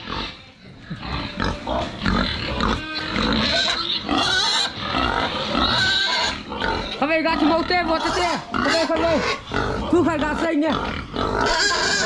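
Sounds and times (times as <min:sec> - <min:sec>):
pigs grunting and squealing: 0:00.0 - 0:12.0.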